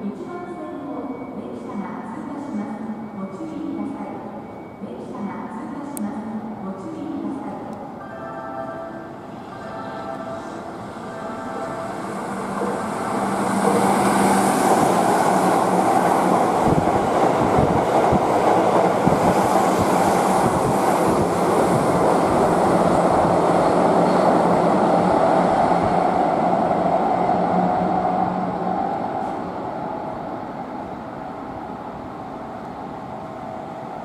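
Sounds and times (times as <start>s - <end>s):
electric train rumbling: 1.7s - 34.0s.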